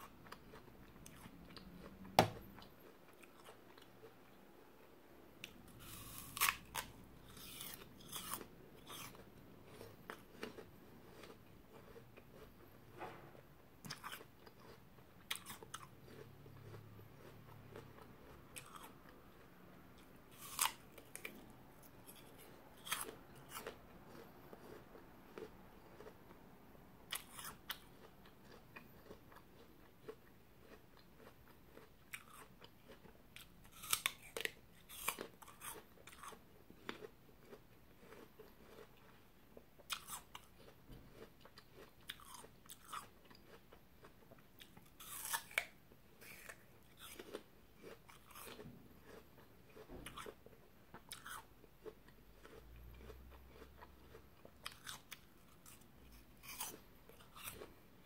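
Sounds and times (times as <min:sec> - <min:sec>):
chewing crisp apple: 0:00.0 - 0:58.0.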